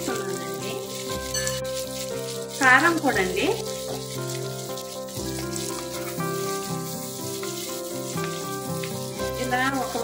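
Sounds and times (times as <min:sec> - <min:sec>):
cheese sizzling in butter: 0:00.0 - 0:10.0
instrumental music: 0:00.0 - 0:10.0.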